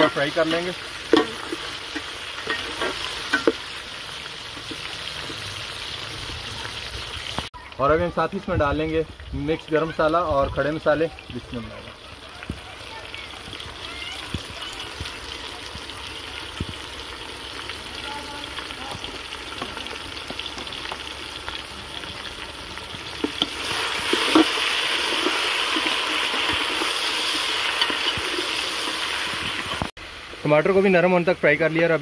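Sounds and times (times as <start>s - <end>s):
food sizzling in a pot: 0.0s - 32.0s.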